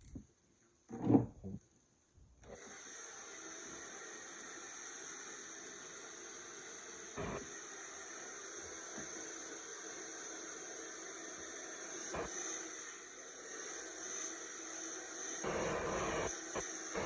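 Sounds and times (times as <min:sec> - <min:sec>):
hair dryer running: 0:02.6 - 0:17.0.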